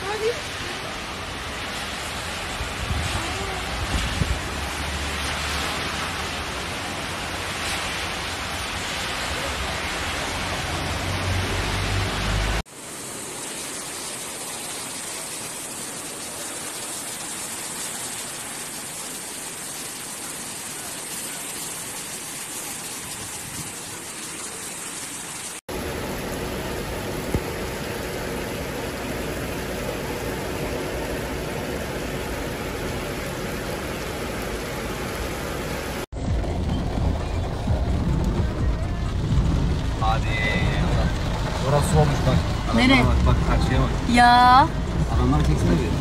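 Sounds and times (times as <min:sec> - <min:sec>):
heavy rain hissing: 0:00.0 - 0:46.0.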